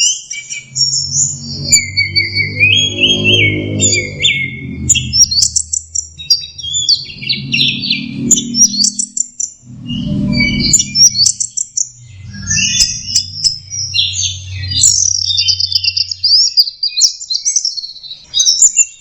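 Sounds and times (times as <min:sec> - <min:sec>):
thrush singing: 0:00.0 - 0:16.5
low hum: 0:00.6 - 0:16.2.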